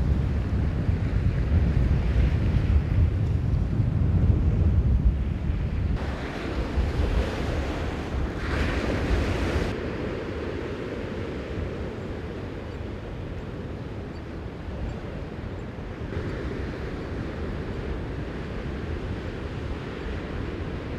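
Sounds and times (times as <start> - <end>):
waves on open water: 0.0 - 20.9
wind buffeting microphone: 0.0 - 20.9.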